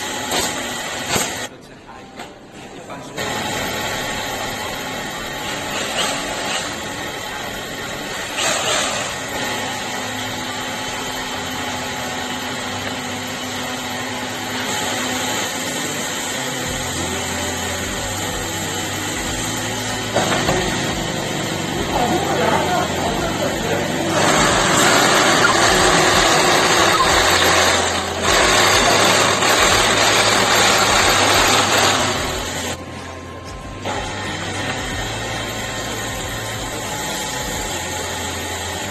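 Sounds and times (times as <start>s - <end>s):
power tool motor whining: 3.2s - 33.2s, 33.8s - 38.9s.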